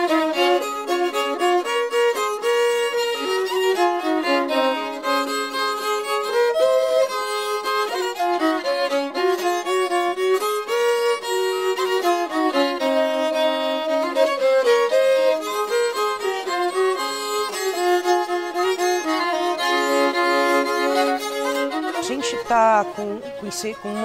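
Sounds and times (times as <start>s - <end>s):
fiddle melody: 0.0s - 24.0s.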